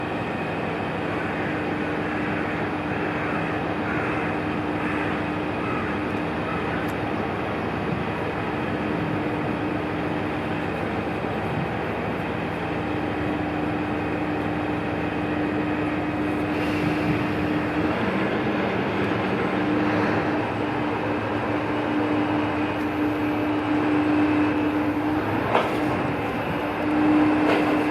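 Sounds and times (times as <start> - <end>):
diesel railcar engine hum: 0.0 - 27.9.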